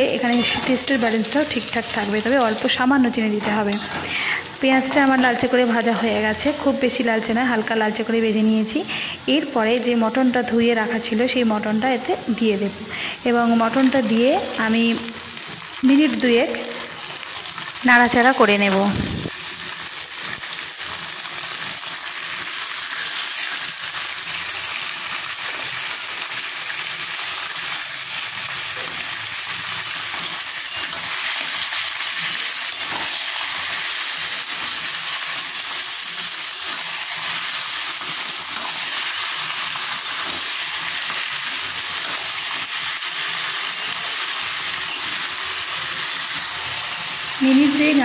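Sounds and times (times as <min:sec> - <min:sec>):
meat sizzling in hot oil: 0:00.0 - 0:48.0.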